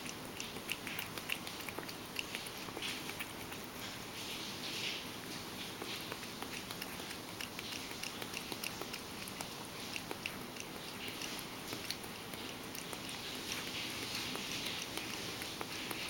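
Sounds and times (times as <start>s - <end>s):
cat lapping milk from bowl: 0.0s - 16.0s.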